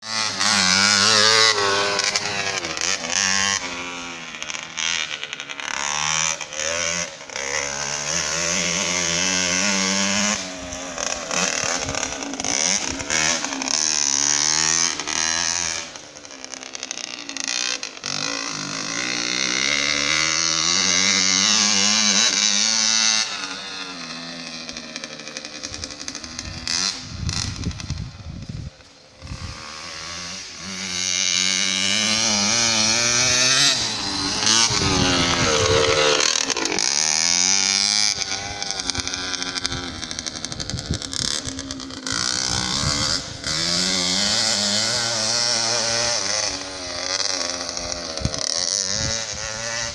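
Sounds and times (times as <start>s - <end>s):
motocross bike engine revving: 0.0s - 49.9s.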